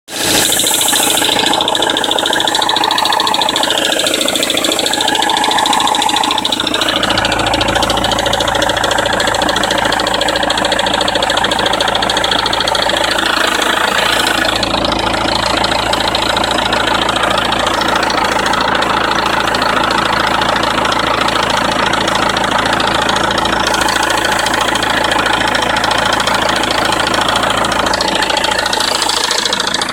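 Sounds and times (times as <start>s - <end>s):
diesel engine idling with rattle: 0.1s - 29.9s.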